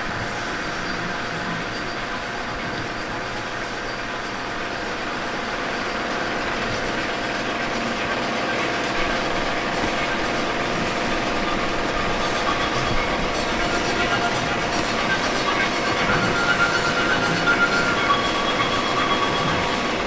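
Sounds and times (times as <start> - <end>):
steady mechanical running noise: 0.0 - 20.0.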